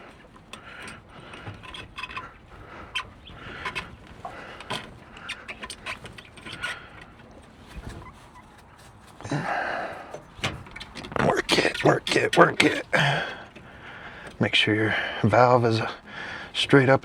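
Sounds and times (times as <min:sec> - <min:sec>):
fitting clicking and scraping in hose: 0:00.0 - 0:17.0.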